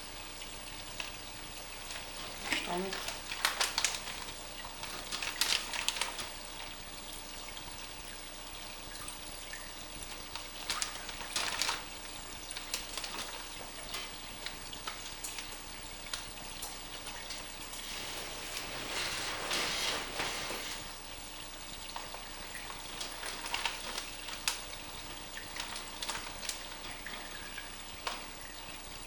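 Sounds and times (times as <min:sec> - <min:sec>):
trickling running water: 0:00.0 - 0:29.0
water sloshing and splashing: 0:00.8 - 0:29.0.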